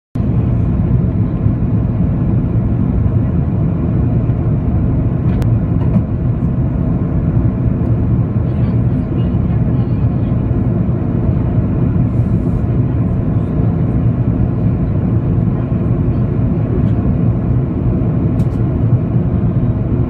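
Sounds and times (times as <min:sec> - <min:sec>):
airflow over wing: 0:00.2 - 0:20.0
airliner cabin engine roar: 0:00.2 - 0:20.0.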